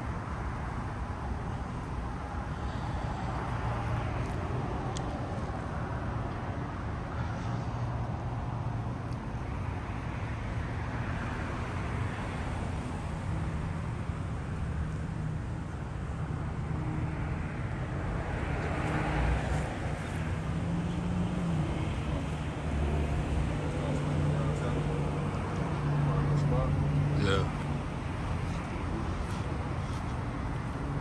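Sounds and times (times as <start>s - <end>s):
distant road traffic: 0.0s - 31.0s.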